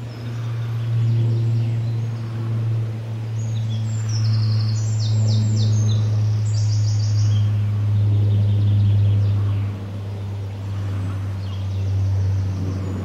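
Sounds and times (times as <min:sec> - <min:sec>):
loud steady low hum: 0:00.0 - 0:13.0.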